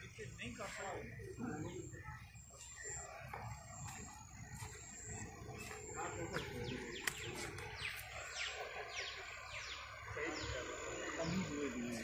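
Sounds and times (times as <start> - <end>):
steady high-pitched tone: 0.0 - 12.0.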